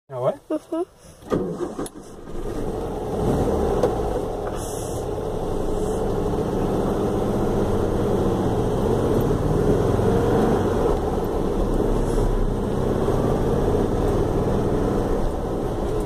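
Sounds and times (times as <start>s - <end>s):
car engine running: 1.2s - 16.0s.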